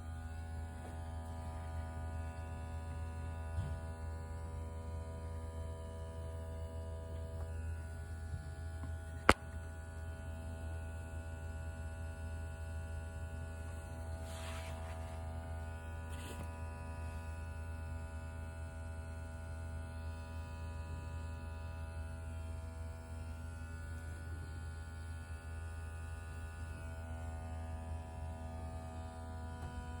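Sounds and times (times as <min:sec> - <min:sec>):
electric air pump buzzing hum: 0:00.0 - 0:30.0.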